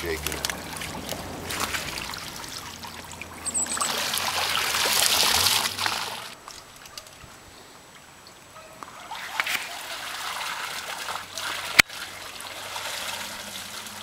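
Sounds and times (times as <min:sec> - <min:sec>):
water pouring and splashing: 0:00.0 - 0:07.4, 0:08.9 - 0:14.0.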